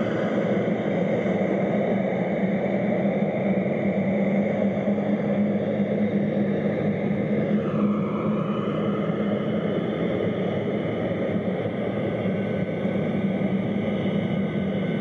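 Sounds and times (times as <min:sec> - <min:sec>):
jet engines rumbling with whine: 0:00.0 - 0:15.0.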